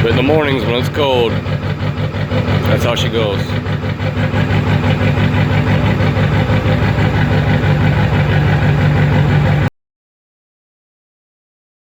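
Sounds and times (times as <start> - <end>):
diesel engine idling: 0.0 - 9.7.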